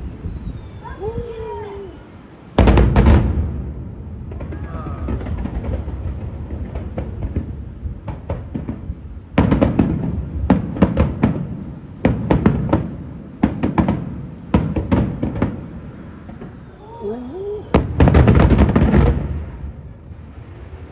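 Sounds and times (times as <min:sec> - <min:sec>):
low continuous rumble: 0:00.0 - 0:20.9.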